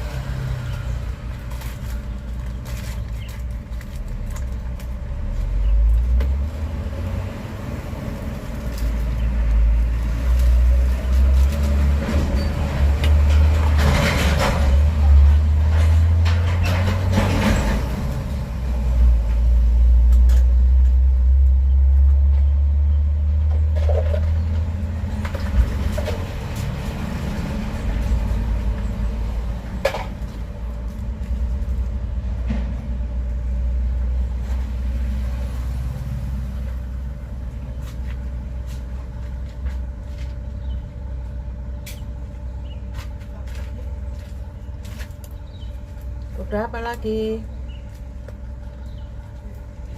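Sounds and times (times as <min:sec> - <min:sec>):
heavy vehicle engine rumble: 0:00.0 - 0:49.9.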